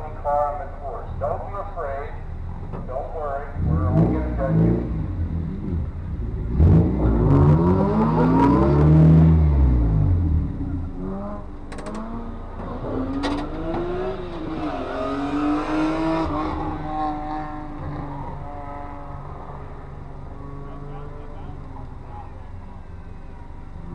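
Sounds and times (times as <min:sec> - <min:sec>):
car engine revving: 0:00.2 - 0:23.9.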